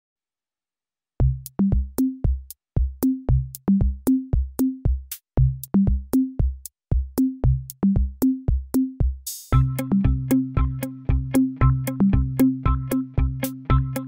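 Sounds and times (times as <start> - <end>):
electronic drum machine beat: 1.2 - 14.0.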